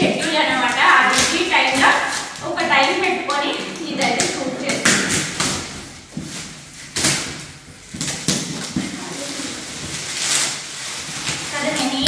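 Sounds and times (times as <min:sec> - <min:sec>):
wrapping paper rustling and tearing: 0:00.0 - 0:12.0.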